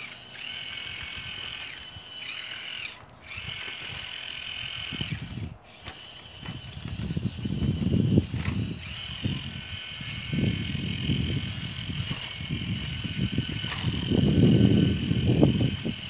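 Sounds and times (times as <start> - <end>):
excavator pump whine: 0.0 - 16.0.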